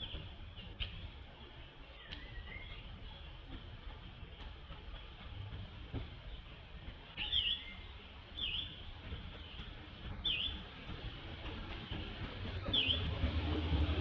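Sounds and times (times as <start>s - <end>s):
low outdoor background noise: 0.0s - 14.0s.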